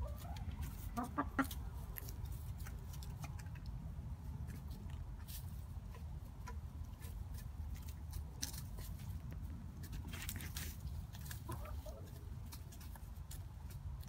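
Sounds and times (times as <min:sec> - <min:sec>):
hens pecking in straw: 0:00.0 - 0:14.0.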